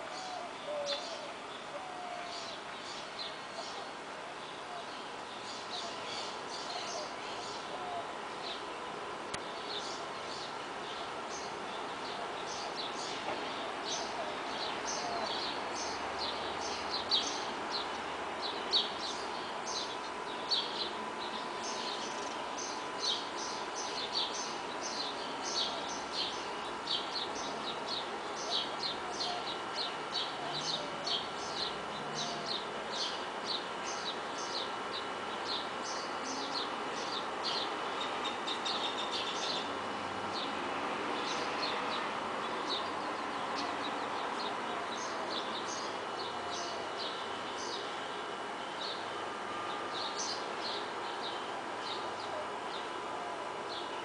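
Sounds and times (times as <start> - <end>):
distant traffic hum: 0.0 - 54.0
songbirds chirping: 0.0 - 54.0.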